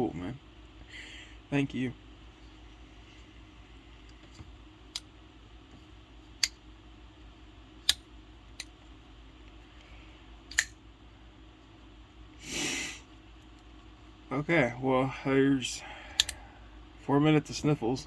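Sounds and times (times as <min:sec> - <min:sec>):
faint room hum: 0:00.0 - 0:18.0.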